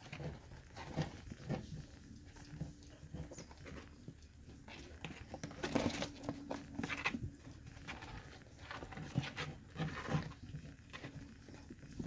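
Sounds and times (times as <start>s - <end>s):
rabbits scrabbling on plastic: 0.0s - 12.0s.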